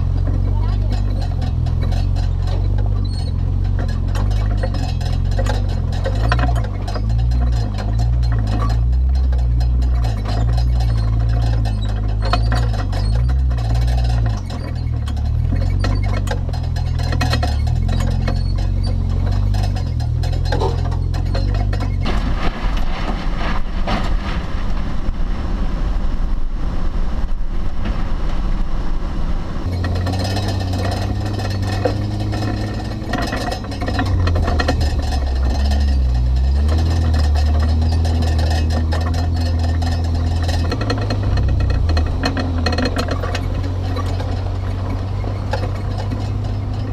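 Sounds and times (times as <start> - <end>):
bumps and rattles: 0.0 - 46.9
suv engine driving slowly: 0.0 - 46.9.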